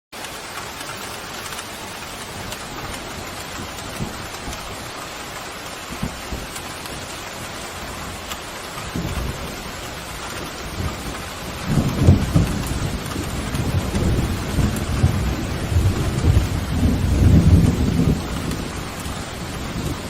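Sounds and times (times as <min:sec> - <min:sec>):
pouring rain: 0:00.1 - 0:20.0
low thunder rumbles: 0:01.0 - 0:20.0.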